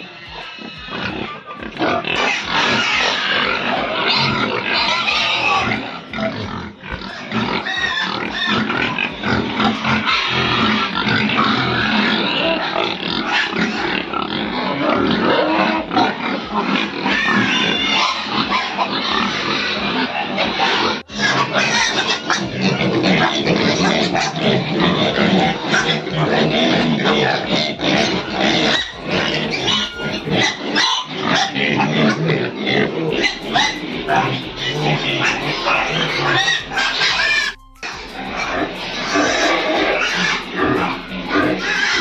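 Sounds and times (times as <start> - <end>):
pigs squealing: 0.0 - 42.0.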